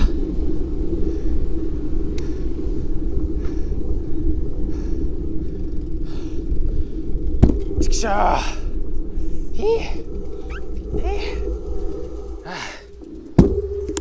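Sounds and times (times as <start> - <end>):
bike tyres rolling on asphalt: 0.0 - 14.0
wind buffeting microphone: 0.0 - 14.0.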